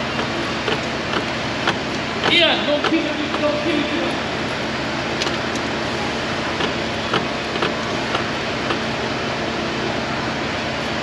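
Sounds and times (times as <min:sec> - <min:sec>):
machinery humming and hissing: 0:00.0 - 0:11.0.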